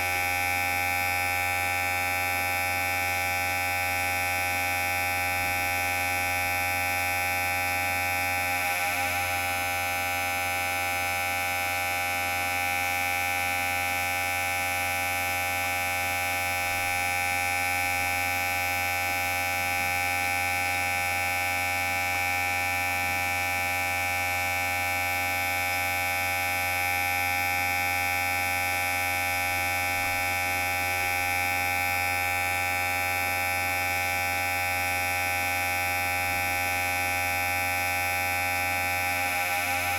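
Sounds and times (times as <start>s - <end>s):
electric hair clipper buzzing: 0.0s - 13.5s, 14.9s - 39.9s.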